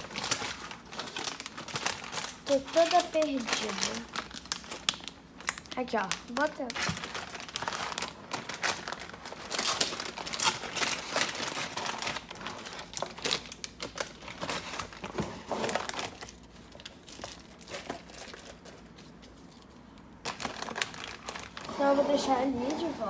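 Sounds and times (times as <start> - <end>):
plastic packets crinkling: 0.0 - 22.9.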